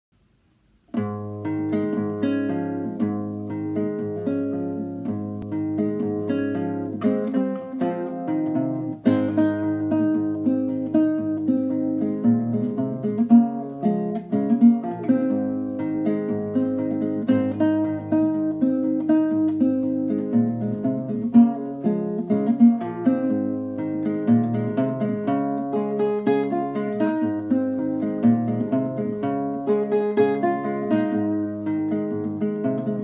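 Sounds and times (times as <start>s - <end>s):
fingerstyle classical guitar: 0.6s - 33.0s.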